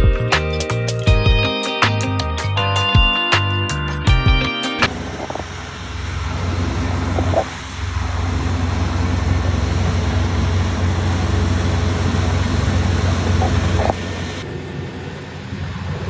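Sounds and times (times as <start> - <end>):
combine harvester running: 1.0 - 16.0.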